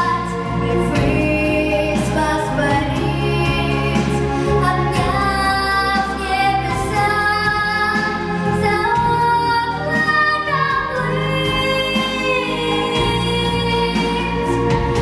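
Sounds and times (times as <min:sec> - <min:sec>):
girl singing into microphone: 0:00.0 - 0:14.5
recorded backing track: 0:00.0 - 0:15.0.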